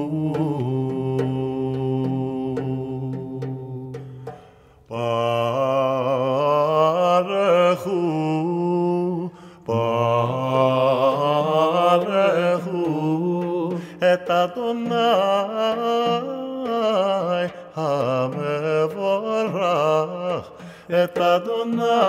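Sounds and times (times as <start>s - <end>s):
solo voice chanting: 0.0s - 22.0s.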